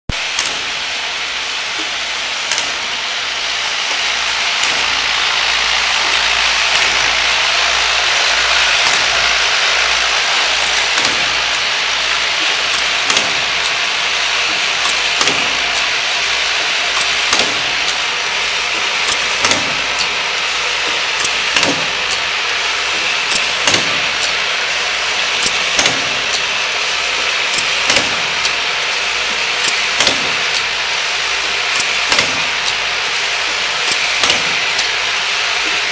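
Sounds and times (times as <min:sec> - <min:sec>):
machine whirring and hissing: 0:00.1 - 0:35.9
sharp mechanical clicks: 0:00.1 - 0:35.9.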